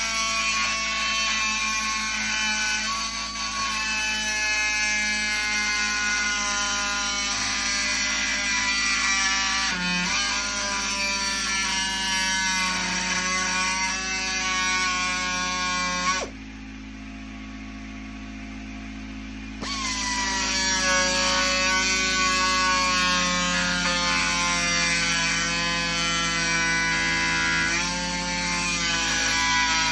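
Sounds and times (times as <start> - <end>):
oscillating multi-tool buzzing: 0.0 - 16.4, 19.6 - 29.9.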